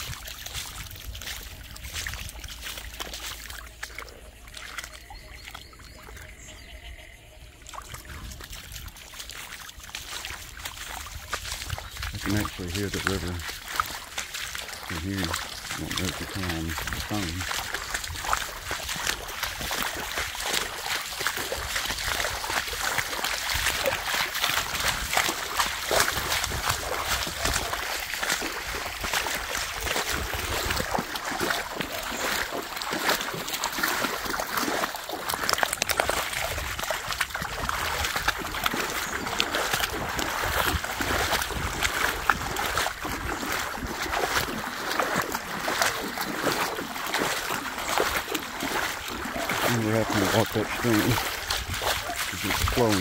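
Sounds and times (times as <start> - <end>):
feet splashing through water: 0.0 - 53.0
rushing water: 0.0 - 53.0.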